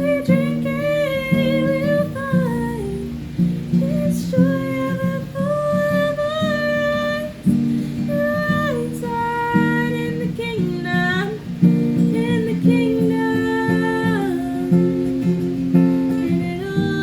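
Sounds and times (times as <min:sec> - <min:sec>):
acoustic guitar strummed and picked: 0:00.0 - 0:17.0
high wordless vocal melody: 0:00.0 - 0:17.0.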